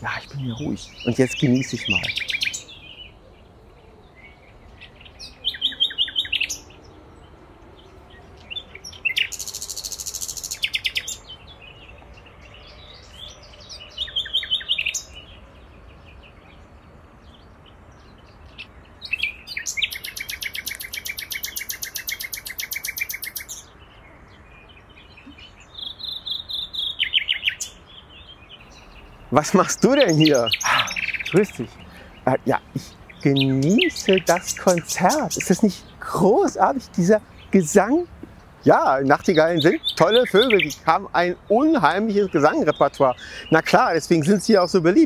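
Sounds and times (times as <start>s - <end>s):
nightingale singing: 0.0s - 45.0s.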